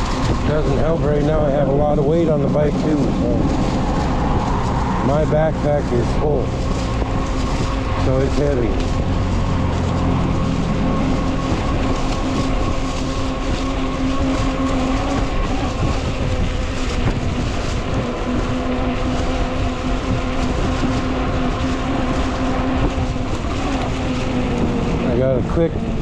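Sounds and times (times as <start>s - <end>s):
electric motor whine: 0.0s - 26.0s
rough wind noise: 0.0s - 26.0s
tyres on wet pavement: 0.0s - 26.0s.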